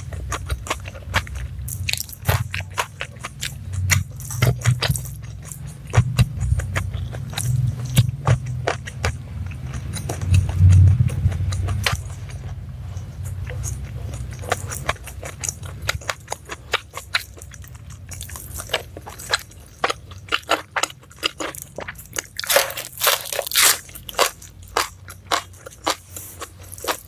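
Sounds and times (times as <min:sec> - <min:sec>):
chewing and crunching: 0:00.0 - 0:27.0.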